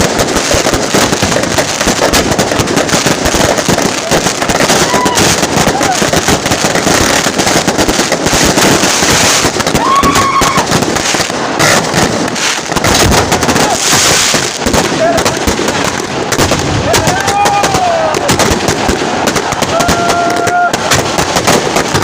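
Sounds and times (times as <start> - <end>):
firecrackers banging: 0.0 - 22.0.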